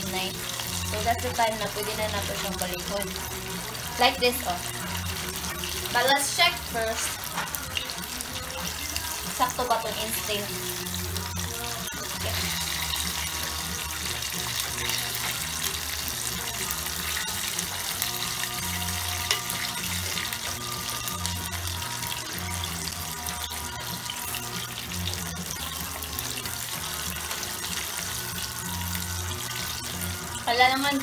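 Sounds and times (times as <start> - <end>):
background music with bass line: 0.0 - 31.0
chicken sizzling in hot oil: 0.0 - 31.0.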